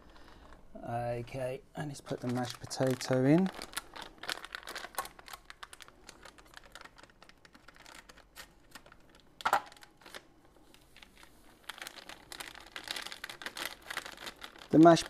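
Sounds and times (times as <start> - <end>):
packet crinkling and rustling: 0.0 - 15.0.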